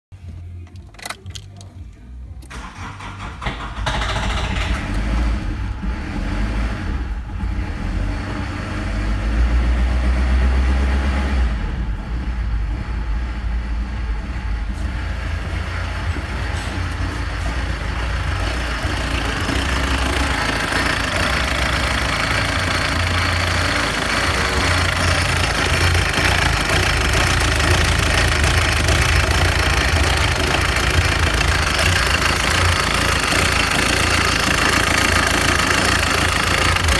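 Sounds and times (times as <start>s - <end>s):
diesel engine starting and idling: 0.2s - 36.9s.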